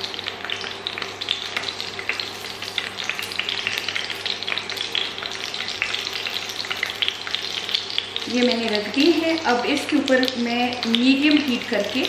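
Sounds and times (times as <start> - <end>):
crackling pops of frying: 0.0 - 12.0
hot oil sizzling in a frying pan: 0.0 - 12.0.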